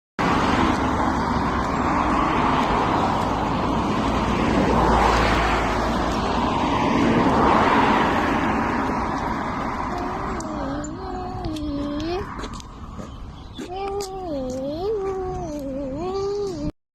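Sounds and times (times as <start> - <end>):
vehicles passing close by: 0.2 - 16.7.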